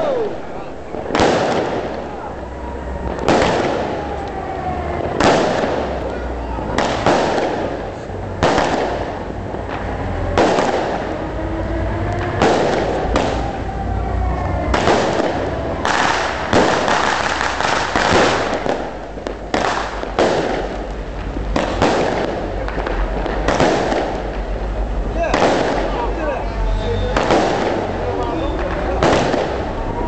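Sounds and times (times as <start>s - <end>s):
firework bangs: 0.0s - 30.0s.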